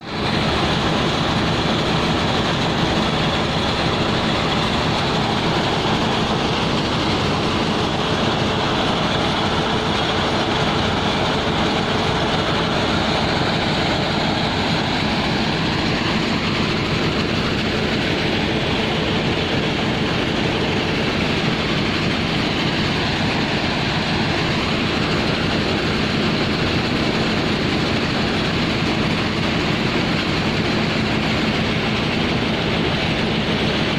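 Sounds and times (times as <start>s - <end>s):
heavy machinery drone: 0.0s - 33.9s.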